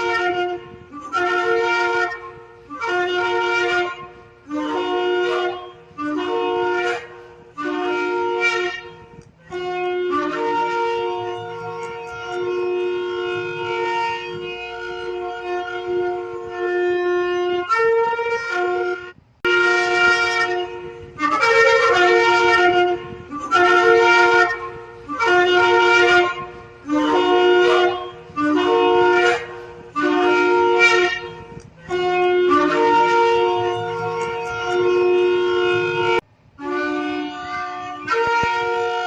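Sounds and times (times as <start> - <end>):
ram's horn blasts: 0.0 - 39.0.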